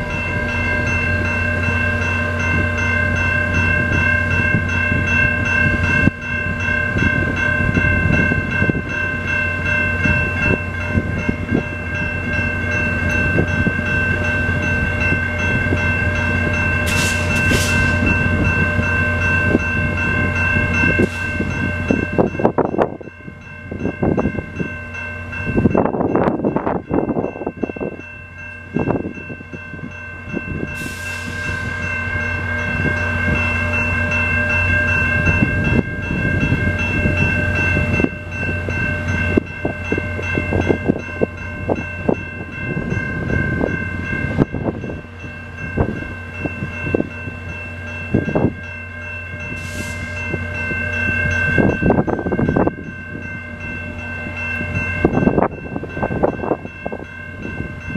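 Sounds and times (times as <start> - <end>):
diesel locomotive idling hum: 0.0 - 57.9
level-crossing warning bell: 0.0 - 57.9.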